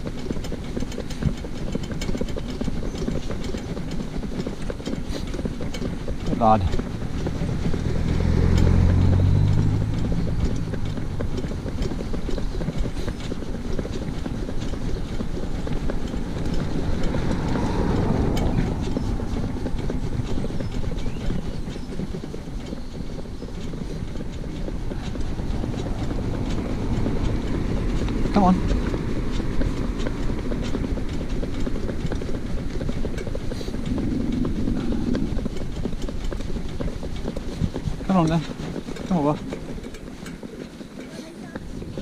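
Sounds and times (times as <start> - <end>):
cart wheels and harness clattering: 0.0 - 42.0
hooves clip-clopping on tarmac: 0.0 - 42.0
car passing: 5.9 - 42.0.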